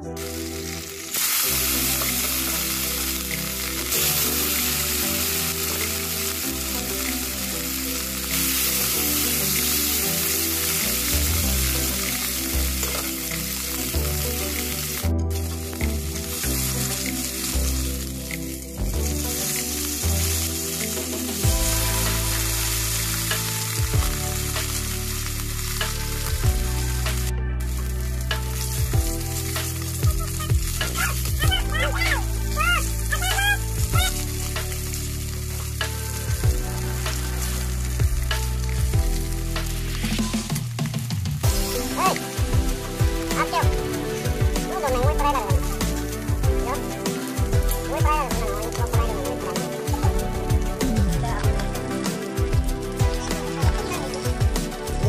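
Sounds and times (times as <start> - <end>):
background music: 0.0 - 55.0
fish sizzling in oil: 0.0 - 55.0.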